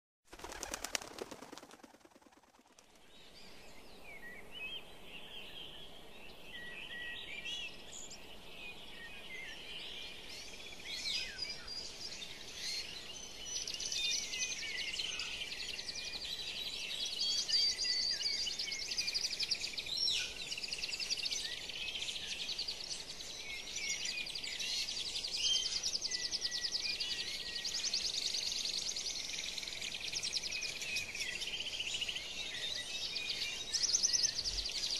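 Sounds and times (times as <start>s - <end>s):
chorus of chirping birds: 3.0s - 34.9s.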